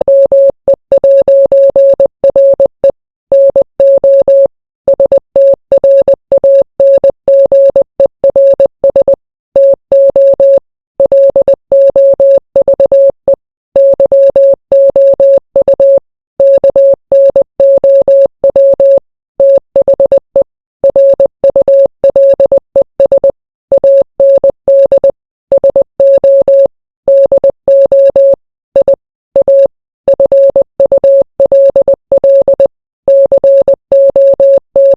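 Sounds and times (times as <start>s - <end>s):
morse code beeps: 0.0s - 34.9s.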